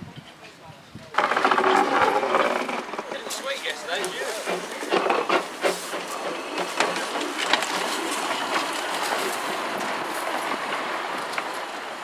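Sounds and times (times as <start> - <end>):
steam locomotive moving slowly: 0.0 - 12.0.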